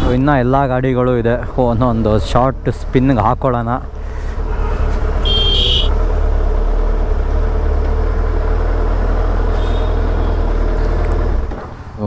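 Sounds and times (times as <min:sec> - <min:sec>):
motorcycle engine droning: 0:01.6 - 0:11.6.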